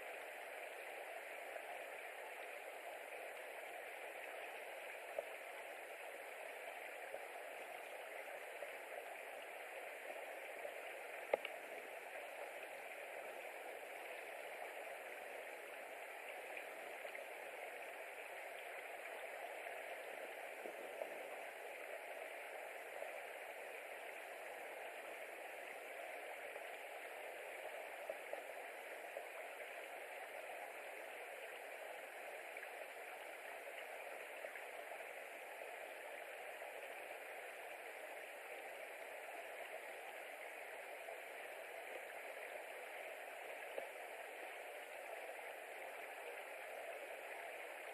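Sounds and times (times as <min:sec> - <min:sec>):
faint ticks: 0:00.0 - 0:47.9
steady hiss: 0:00.0 - 0:47.9.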